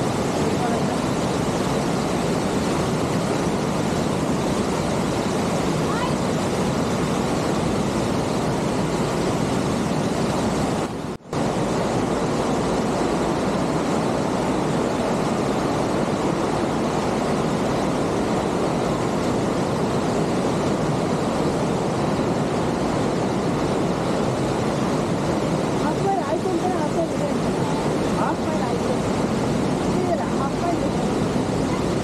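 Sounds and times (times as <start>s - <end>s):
creek rushing over rocks: 0.0s - 32.0s.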